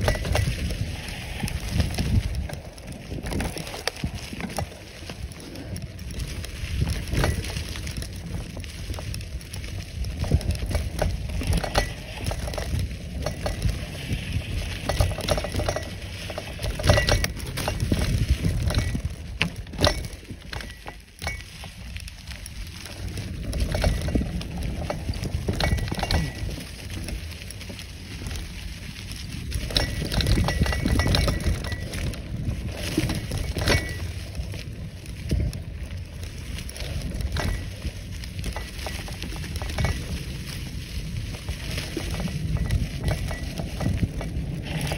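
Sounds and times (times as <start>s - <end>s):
bicycle rattling over bumps: 0.0s - 44.9s
tyres crunching through leaves: 0.0s - 44.9s
wind rumble on microphone: 0.0s - 44.9s.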